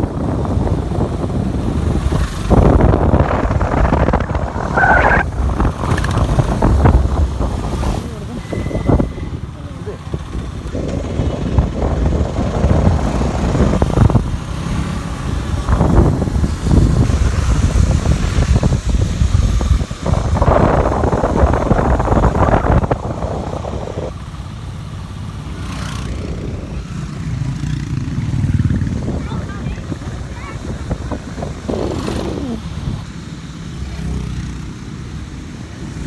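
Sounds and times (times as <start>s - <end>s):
wind buffeting on microphone: 0.0s - 24.2s, 25.5s - 33.2s
motorcycle engine running: 0.0s - 36.0s.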